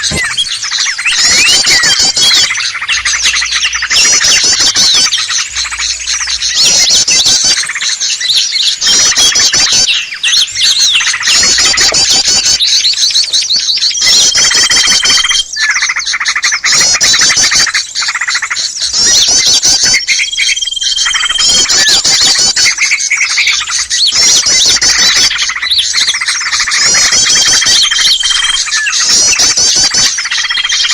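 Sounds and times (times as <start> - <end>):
songbirds chattering: 0.0 - 30.9.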